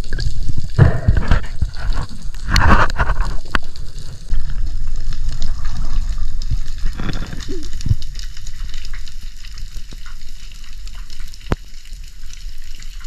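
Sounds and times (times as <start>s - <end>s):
water rushing and sloshing: 0.0s - 13.0s.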